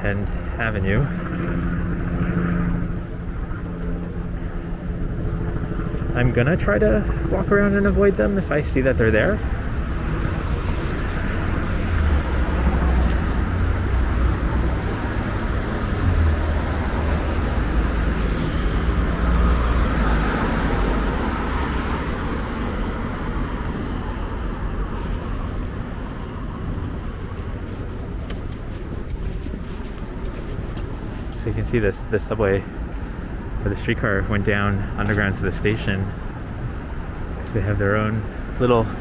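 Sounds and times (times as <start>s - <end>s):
heavy low rumble: 0.0s - 39.0s
hum of passing vehicles: 0.0s - 39.0s.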